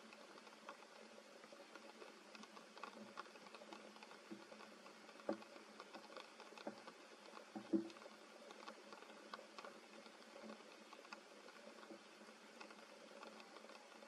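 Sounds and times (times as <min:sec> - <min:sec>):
raindrops dripping onto leaves: 0:00.0 - 0:14.0.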